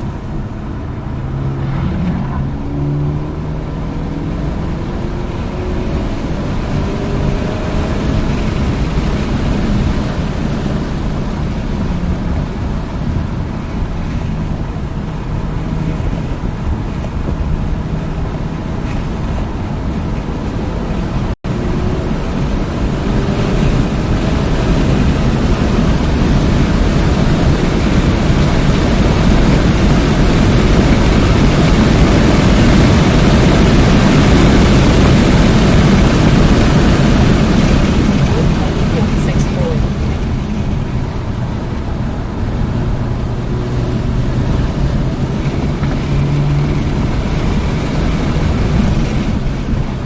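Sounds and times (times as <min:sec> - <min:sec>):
car engine running: 0:00.0 - 0:50.0
wind and road noise: 0:00.0 - 0:50.0.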